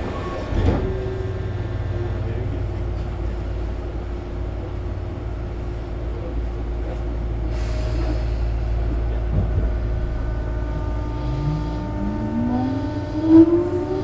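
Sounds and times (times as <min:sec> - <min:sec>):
train car low hum: 0:00.0 - 0:14.0.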